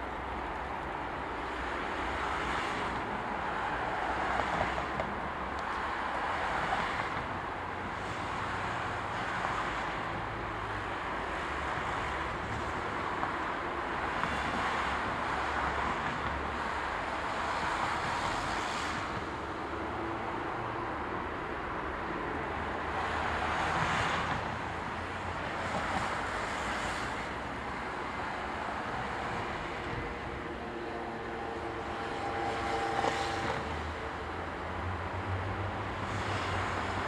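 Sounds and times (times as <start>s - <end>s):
diesel freight train rumbling: 0.0s - 37.0s.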